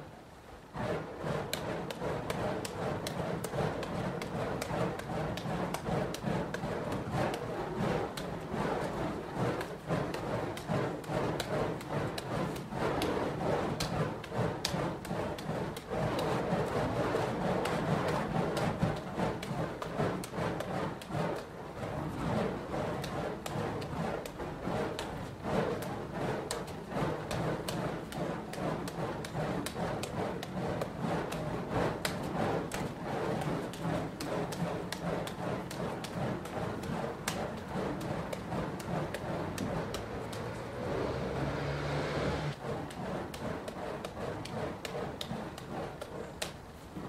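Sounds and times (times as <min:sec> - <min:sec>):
continuous rushing noise: 0:00.0 - 0:47.0.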